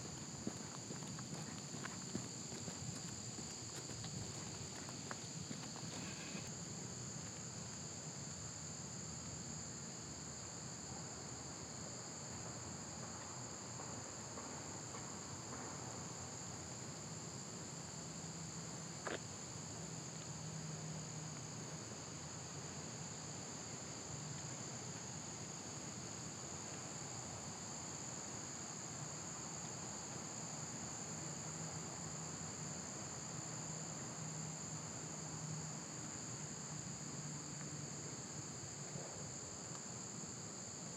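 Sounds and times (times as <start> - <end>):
insect chorus chirring: 0.0 - 40.9.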